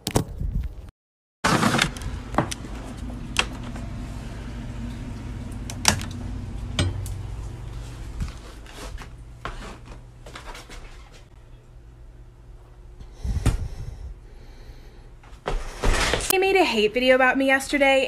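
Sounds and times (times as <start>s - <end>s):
steady low hum: 1.5s - 16.0s.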